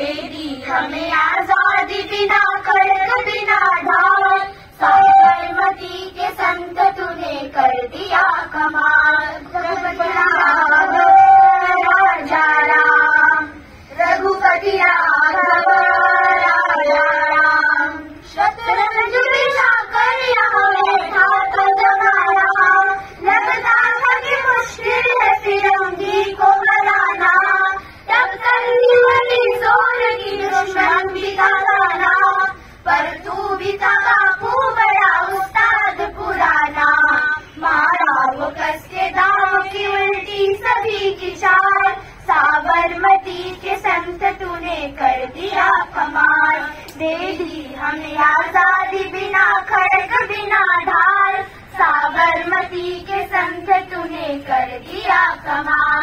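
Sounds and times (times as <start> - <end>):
girls singing together: 0.0 - 56.0.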